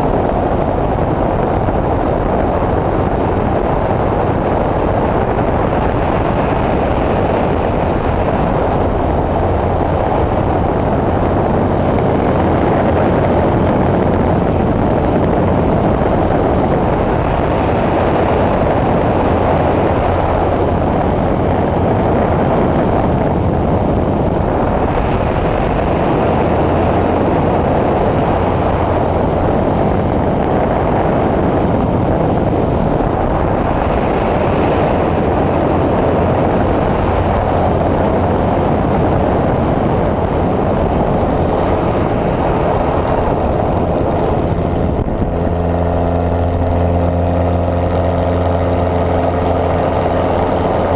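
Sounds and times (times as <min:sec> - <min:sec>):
propeller plane engine: 0:00.0 - 0:50.9
wind rush on microphone: 0:00.0 - 0:50.9.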